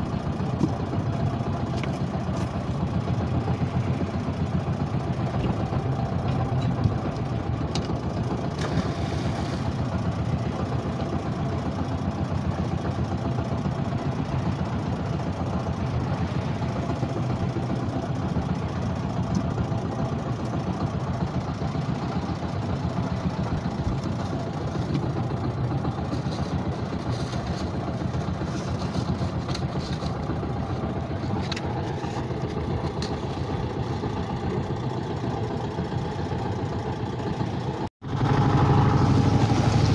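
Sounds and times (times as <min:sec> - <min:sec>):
boat engine running steadily: 0:00.0 - 0:39.9.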